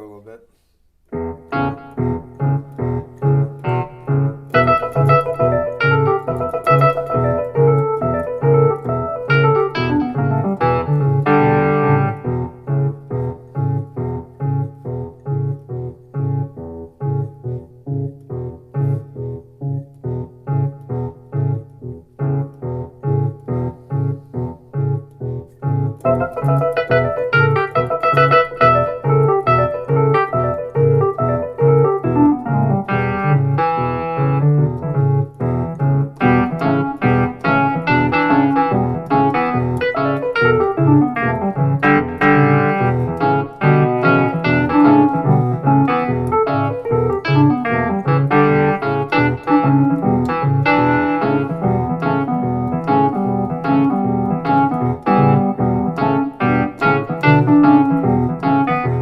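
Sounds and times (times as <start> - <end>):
electric piano playing: 1.0 - 59.0.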